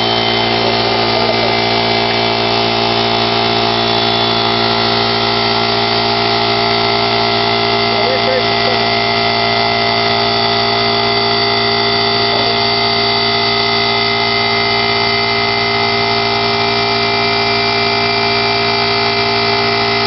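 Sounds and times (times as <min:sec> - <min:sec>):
air compressor droning: 0:00.0 - 0:20.0.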